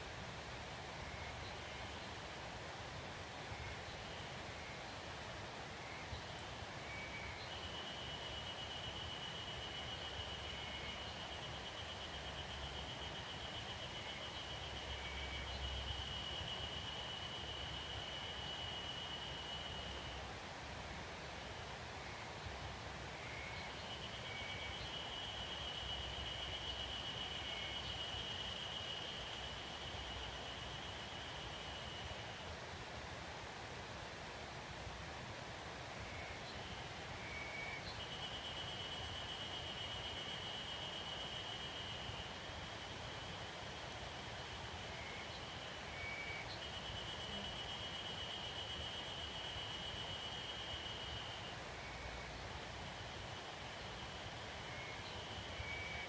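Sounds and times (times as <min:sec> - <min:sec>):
steady soft hiss: 0:00.0 - 0:56.0.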